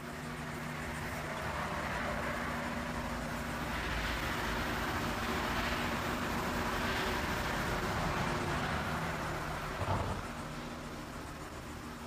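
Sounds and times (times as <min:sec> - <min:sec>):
outdoor background wash: 0:00.0 - 0:12.0.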